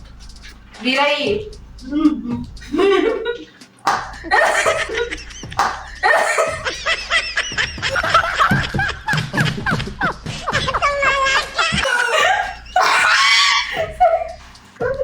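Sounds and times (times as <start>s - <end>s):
people laughing: 1.8s - 15.0s.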